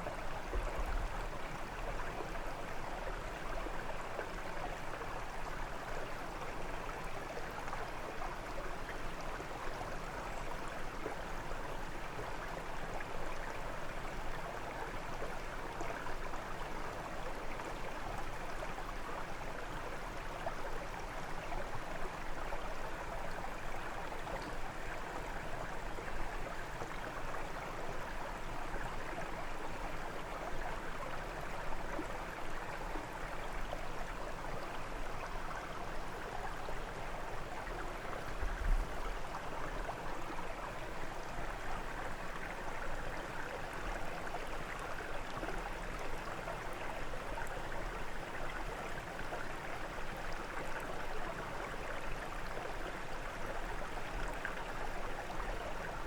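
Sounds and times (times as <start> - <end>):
brook babbling over stones: 0.0 - 56.0.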